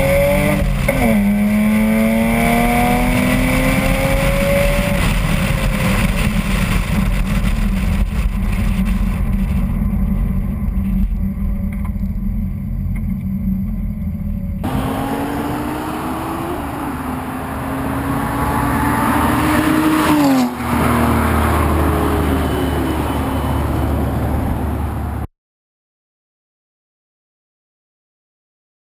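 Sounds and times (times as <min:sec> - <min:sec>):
car engine accelerating: 0:00.0 - 0:25.3.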